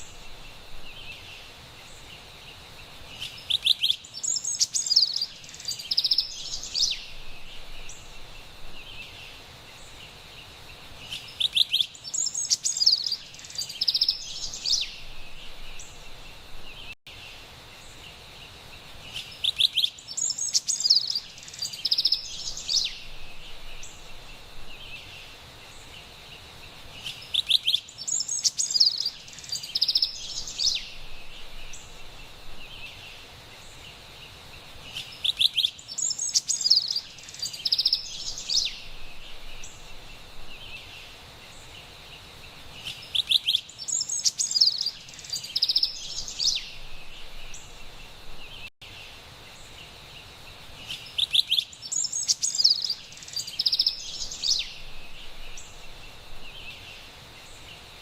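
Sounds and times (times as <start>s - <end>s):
wren singing: 0.0s - 10.1s, 11.0s - 17.0s, 19.0s - 26.2s, 27.0s - 49.8s, 50.8s - 58.0s
faint forest ambience hiss: 0.0s - 58.0s.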